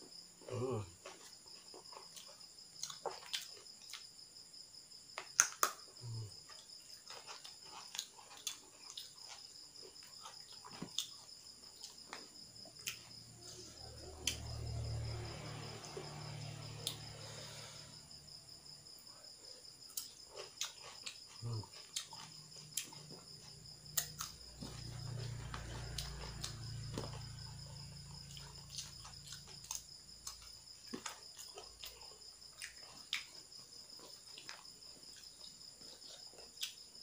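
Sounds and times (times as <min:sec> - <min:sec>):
cricket trilling: 0:00.0 - 0:37.0
chewing and food handling: 0:01.0 - 0:04.2, 0:05.1 - 0:37.0.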